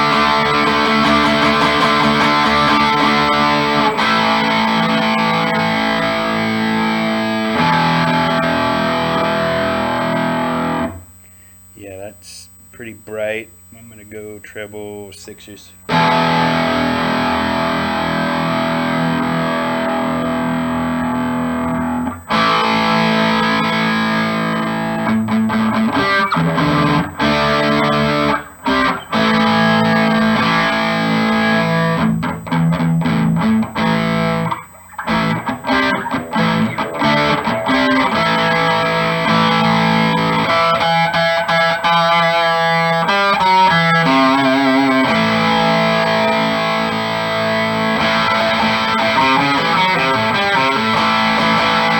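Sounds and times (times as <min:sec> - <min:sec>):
electric guitar through amp: 0:00.0 - 0:51.9.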